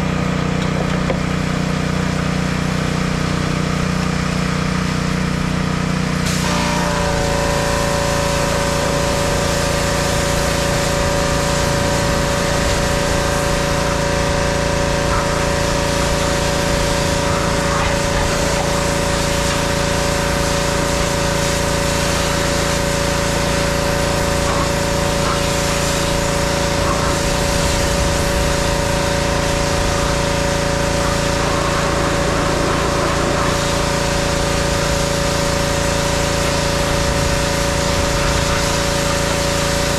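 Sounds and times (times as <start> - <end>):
pressure washer engine running: 0.0 - 39.9
water jet spraying hiss: 6.3 - 39.9.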